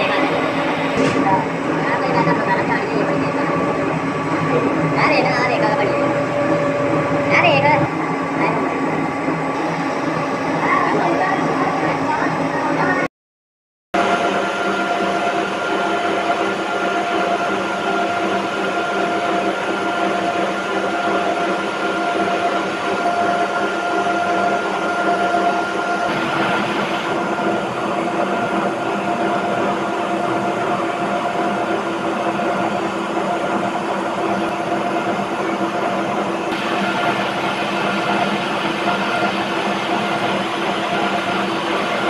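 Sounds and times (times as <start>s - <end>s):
gear cutting machine droning: 0.0s - 12.9s, 14.0s - 42.0s.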